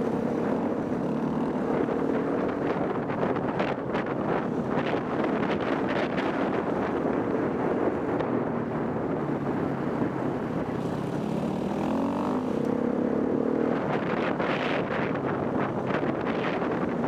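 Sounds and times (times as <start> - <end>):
motorcycle engine accelerating: 0.0 - 7.5, 9.1 - 17.0
wind buffeting microphone: 0.0 - 17.0.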